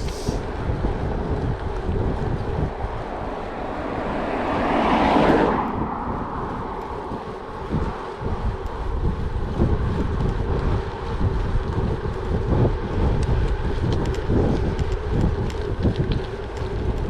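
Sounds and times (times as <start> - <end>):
bike tyres rolling on gravel: 0.0 - 17.0
wind buffeting microphone: 0.0 - 17.0.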